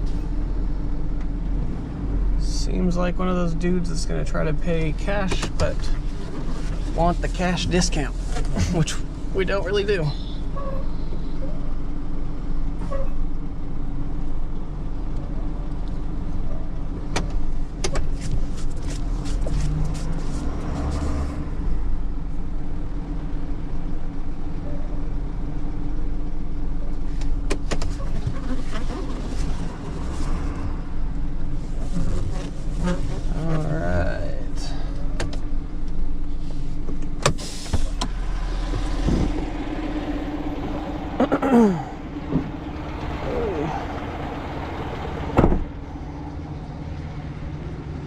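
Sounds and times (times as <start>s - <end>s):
vehicle engine humming: 0.0s - 48.0s.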